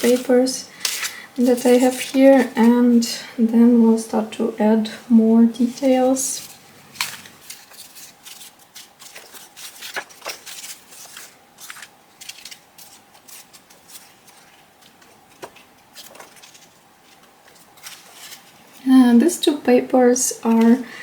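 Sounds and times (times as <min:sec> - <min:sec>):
paper rustling: 0:00.0 - 0:03.2, 0:05.6 - 0:19.2.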